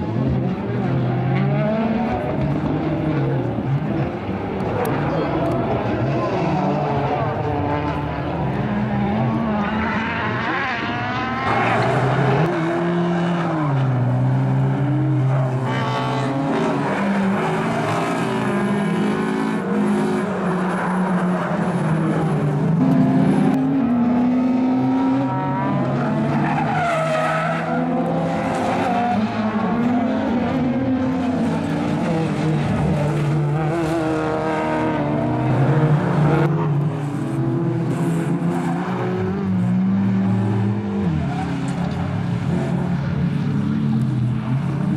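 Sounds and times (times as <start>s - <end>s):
race car engines revving: 0.0s - 44.9s
tyres skidding and squealing: 0.2s - 43.0s.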